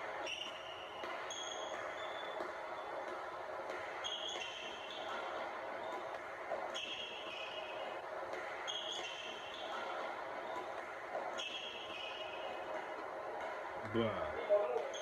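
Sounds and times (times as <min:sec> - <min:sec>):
sneaker squeaks: 0:00.2 - 0:12.9.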